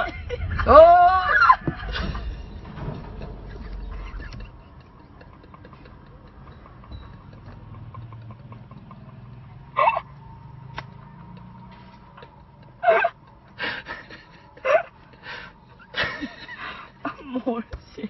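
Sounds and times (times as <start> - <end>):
car engine hum: 0.0 - 18.0.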